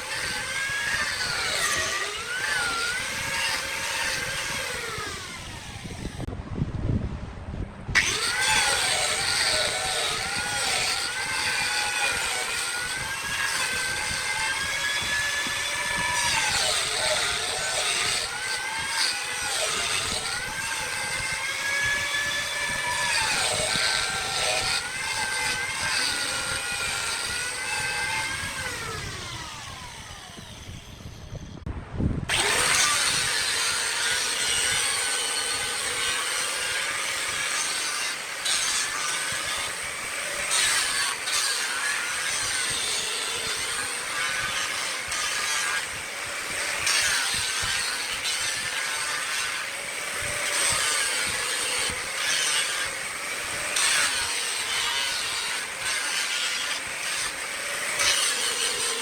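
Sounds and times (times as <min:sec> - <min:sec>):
tool scraping spinning wood: 0:00.0 - 0:06.3, 0:08.0 - 0:31.6, 0:32.3 - 0:59.0.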